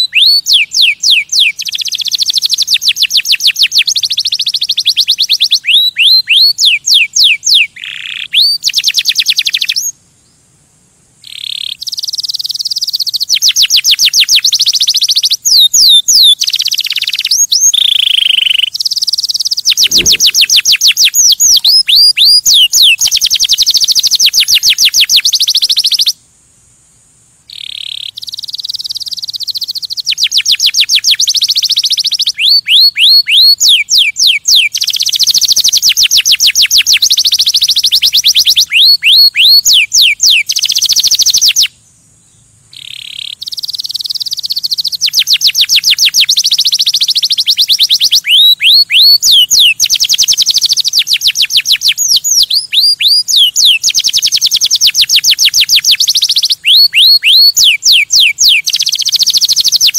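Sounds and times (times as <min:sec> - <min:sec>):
canary singing trills: 0:00.0 - 0:10.4, 0:11.2 - 0:26.2, 0:27.5 - 0:59.9.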